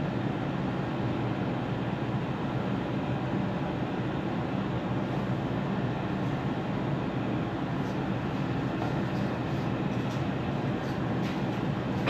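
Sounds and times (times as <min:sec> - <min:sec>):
low mechanical drone with hum: 0:00.0 - 0:12.0.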